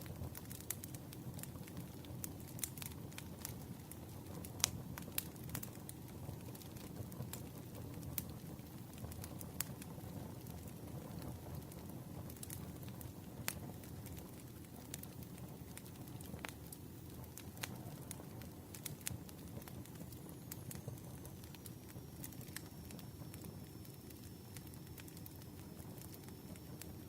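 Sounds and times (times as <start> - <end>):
campfire flames rumbling: 0.0 - 27.0
fire crackling and popping: 0.0 - 27.0.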